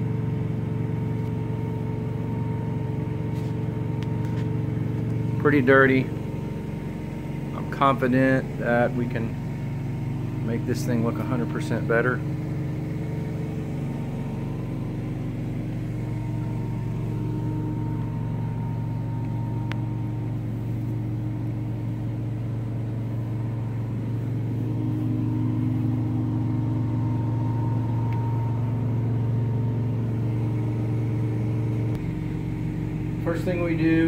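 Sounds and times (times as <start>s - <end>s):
carpet cleaning machine engine drone: 0.0s - 34.0s.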